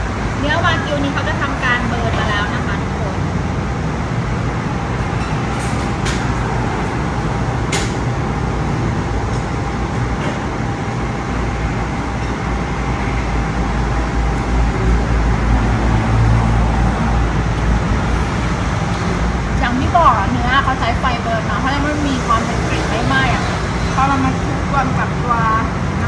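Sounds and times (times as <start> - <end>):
heavy vehicle rumble: 0.0 - 26.0
road traffic noise: 0.0 - 26.0.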